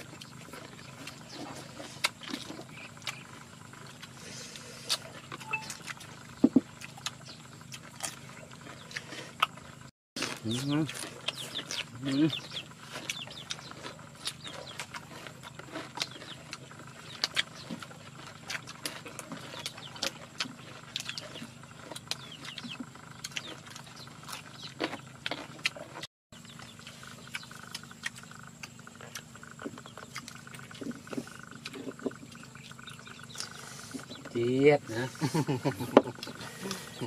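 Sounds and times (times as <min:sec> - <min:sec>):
chewing and lip smacks: 0:00.0 - 0:34.2.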